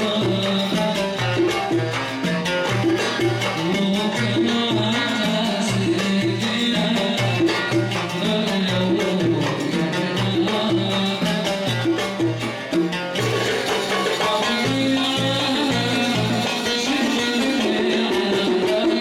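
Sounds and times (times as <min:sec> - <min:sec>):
song with driving percussion: 0:00.0 - 0:19.0.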